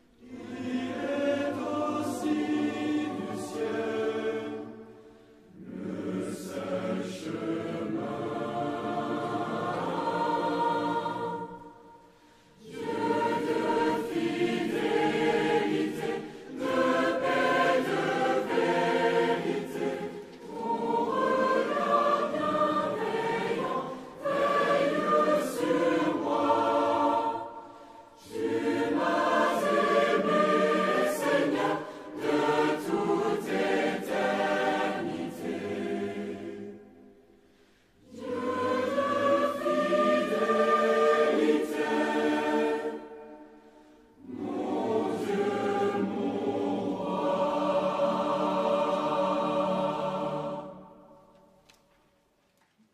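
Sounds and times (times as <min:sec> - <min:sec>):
mixed choir singing a hymn: 0:00.0 - 0:51.6.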